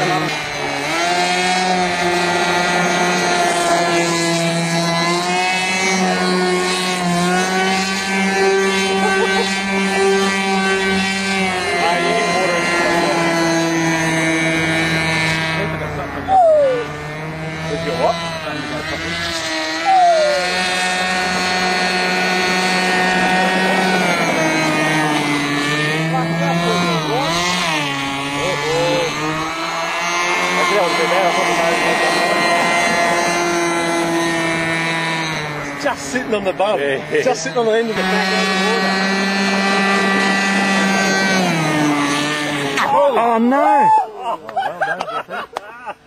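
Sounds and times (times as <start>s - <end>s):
rc airboat engine and propeller: 0.0s - 46.0s.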